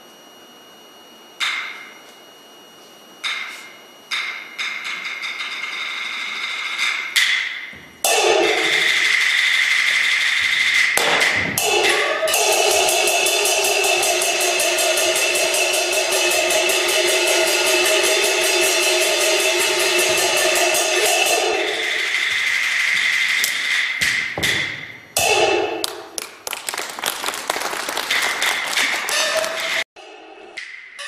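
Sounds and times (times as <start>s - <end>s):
steady ringing tones: 0.3s - 25.8s
opera percussion strikes: 3.2s - 31.0s.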